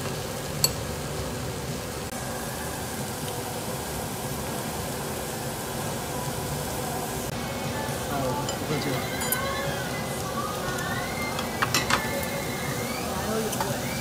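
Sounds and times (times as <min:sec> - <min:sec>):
gas grill hissing: 0:00.0 - 0:14.0.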